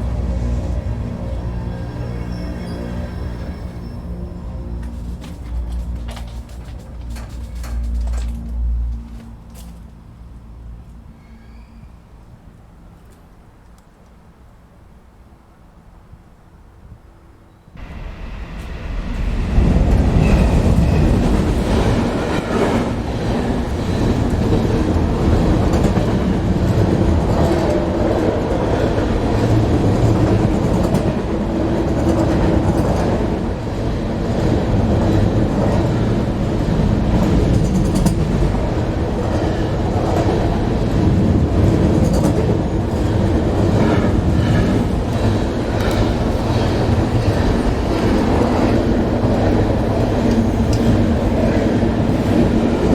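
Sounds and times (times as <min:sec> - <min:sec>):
train rumbling over bridge: 0:00.0 - 0:52.9.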